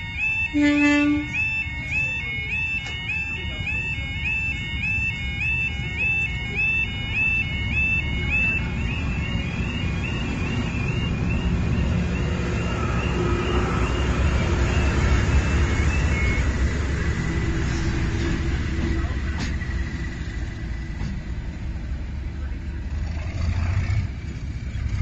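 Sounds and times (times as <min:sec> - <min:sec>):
level-crossing alarm warbling: 0:00.0 - 0:21.0
steady high tone: 0:00.0 - 0:22.6
diesel locomotive passing: 0:00.0 - 0:25.0.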